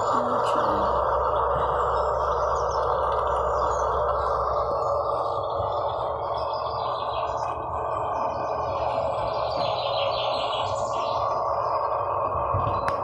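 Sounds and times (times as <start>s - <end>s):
birds chirping through speaker: 0.0s - 13.0s.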